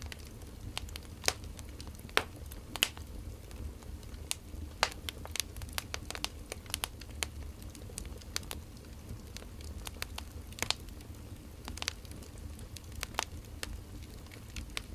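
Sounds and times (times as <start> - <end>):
firewood crackling and popping: 0.0 - 14.9.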